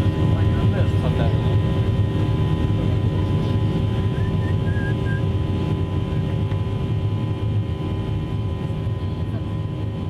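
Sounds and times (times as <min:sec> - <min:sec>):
airplane engines droning: 0:00.0 - 0:10.0.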